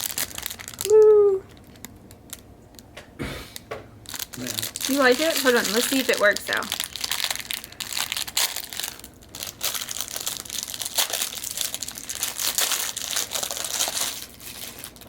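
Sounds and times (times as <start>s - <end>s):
plastic packaging crinkling: 0.0s - 3.0s, 4.0s - 15.0s.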